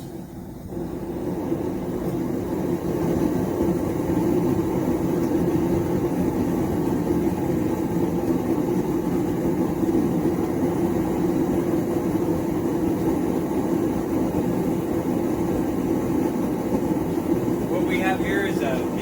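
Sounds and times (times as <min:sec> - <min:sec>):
gas forge burner rumble: 0:00.0 - 0:19.0.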